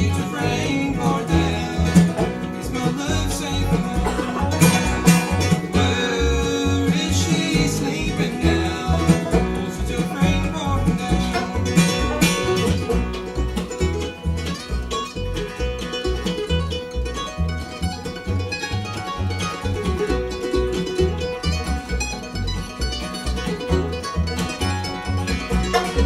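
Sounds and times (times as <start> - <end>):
acoustic guitar picking: 0.0 - 26.0
banjo: 0.0 - 26.0
bass line: 0.0 - 26.0.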